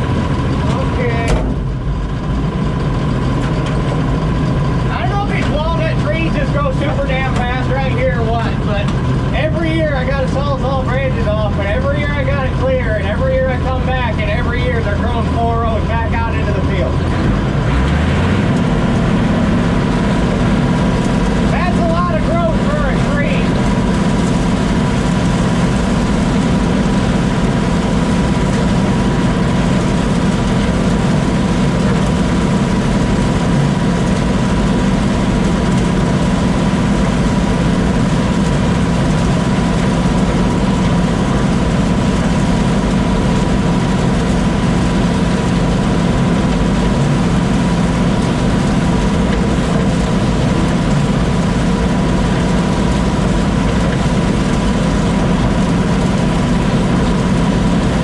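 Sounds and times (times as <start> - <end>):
thin steady whine: 0.0 - 17.6, 18.4 - 58.0
combine harvester humming: 0.0 - 58.0.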